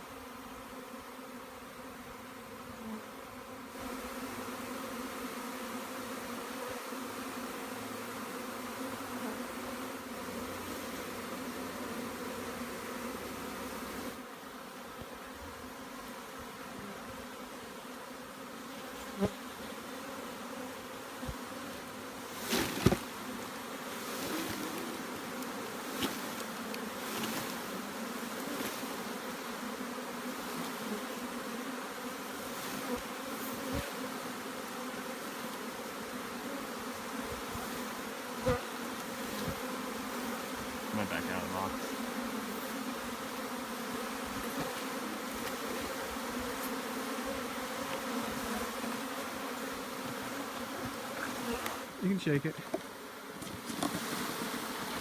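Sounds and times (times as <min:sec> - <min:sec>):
bee swarm buzzing: 0:00.0 - 0:55.0.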